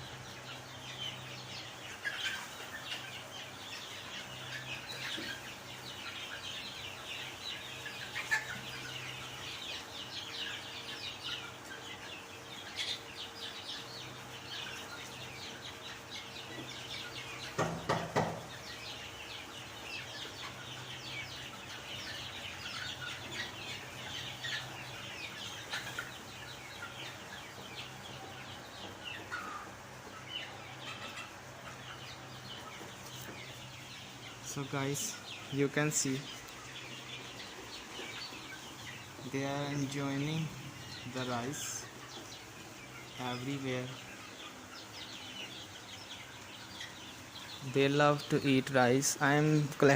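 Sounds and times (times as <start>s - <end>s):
chicks peeping and chirping: 0.0s - 49.9s.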